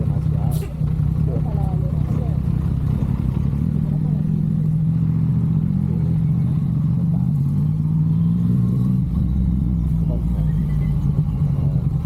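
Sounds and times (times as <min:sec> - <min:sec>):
motorcycle engine running: 0:00.0 - 0:08.3, 0:09.0 - 0:12.0.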